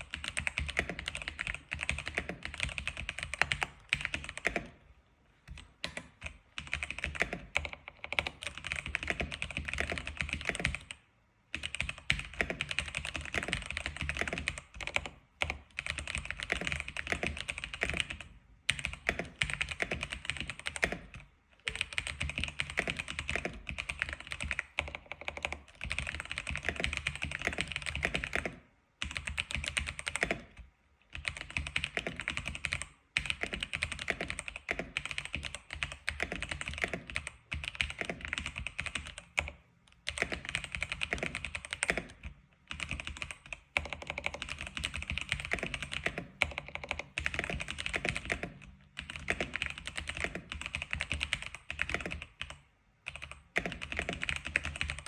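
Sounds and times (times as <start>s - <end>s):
keyboard typing: 0.0s - 4.8s, 5.4s - 55.0s.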